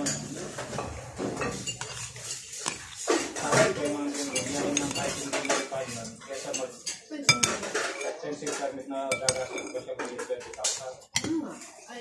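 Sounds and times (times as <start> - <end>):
metal spoon scraping a bowl: 0.0 - 12.0.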